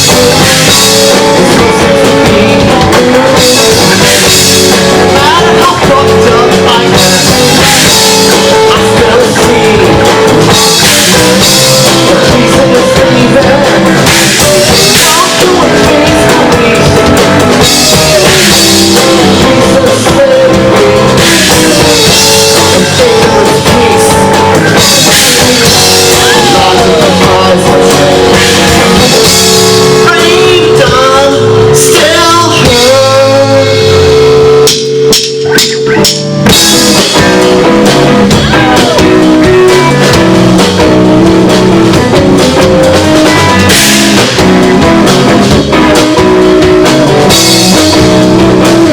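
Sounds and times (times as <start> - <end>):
guitar bending notes: 0.0 - 48.9
live rock band playing: 0.0 - 48.9.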